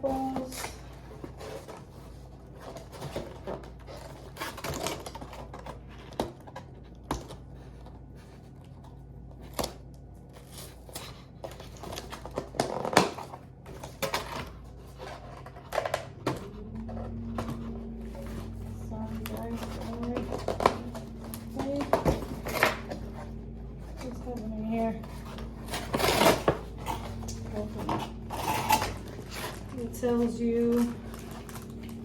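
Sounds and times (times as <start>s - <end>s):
faint low hum: 0.0s - 32.0s
packaging clicks and rustles: 0.0s - 32.0s.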